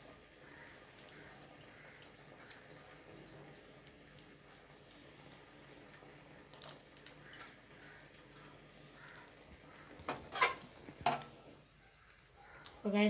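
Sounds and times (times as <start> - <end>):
faint ticks and pops of simmering: 0.0 - 13.0.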